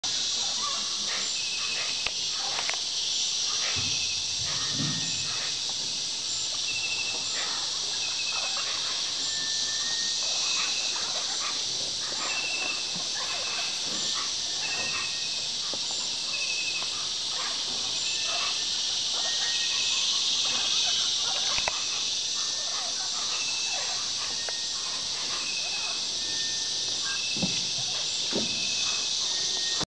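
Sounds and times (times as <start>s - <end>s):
insect chirps: 0.0s - 29.9s
insects buzzing hiss: 0.0s - 29.9s
harsh bird calls: 0.2s - 29.9s.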